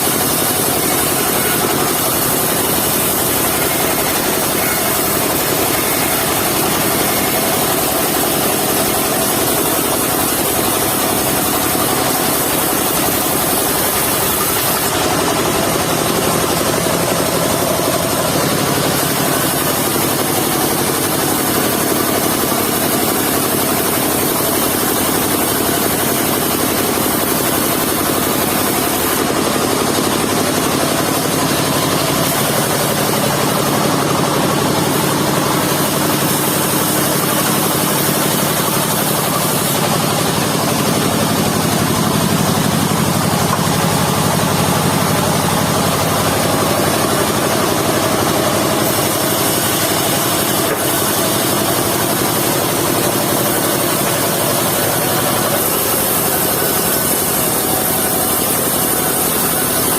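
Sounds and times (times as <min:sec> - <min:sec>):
sawmill engine running loudly: 0:00.0 - 0:59.9.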